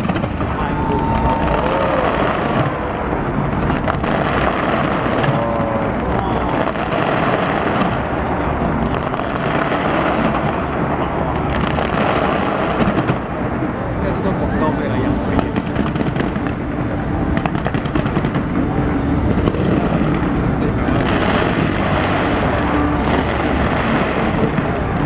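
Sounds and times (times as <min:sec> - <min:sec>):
sharp firework bangs: 0:00.0 - 0:08.2, 0:08.8 - 0:13.5, 0:15.3 - 0:25.0
fireworks booming: 0:00.0 - 0:25.0.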